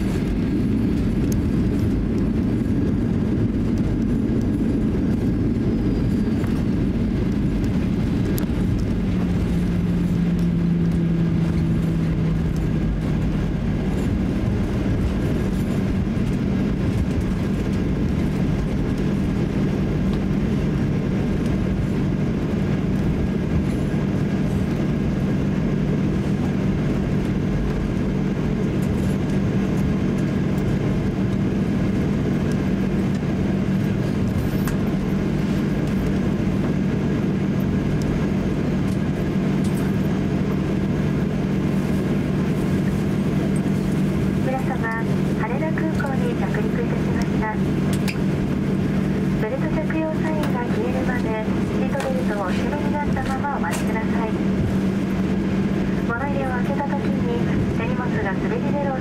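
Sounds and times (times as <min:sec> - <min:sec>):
aircraft cabin noise: 0:00.0 - 0:59.0
steady low hum: 0:00.0 - 0:59.0.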